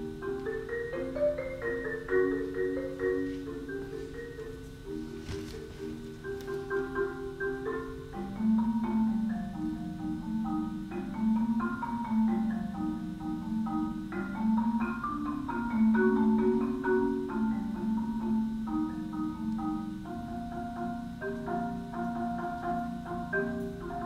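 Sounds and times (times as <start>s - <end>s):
solo marimba: 0.0s - 24.0s.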